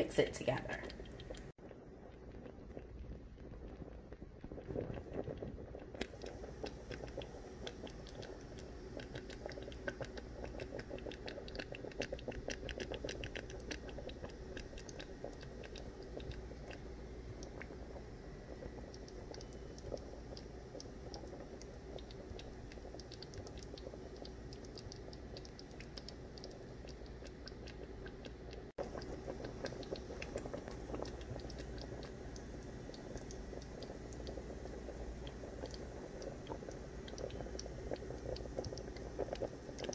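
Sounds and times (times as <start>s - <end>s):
sauce simmering and sputtering: 0.1s - 39.9s.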